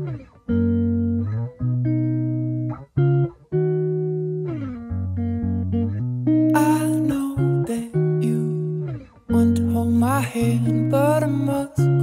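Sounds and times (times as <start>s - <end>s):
guitar playing slow chords: 0.0s - 12.0s.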